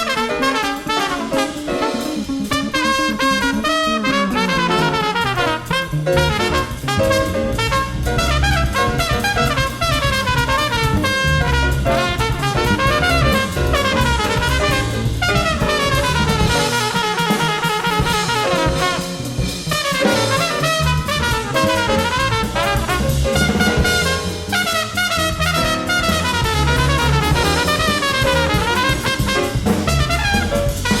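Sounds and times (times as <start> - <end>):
small group jazz: 0.0 - 31.0.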